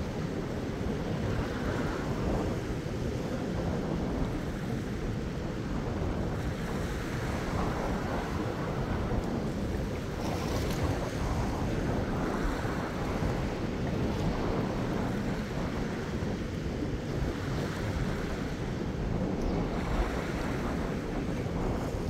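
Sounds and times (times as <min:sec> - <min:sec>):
small waves lapping on reef: 0:00.0 - 0:22.0
wind buffeting microphone: 0:00.0 - 0:22.0.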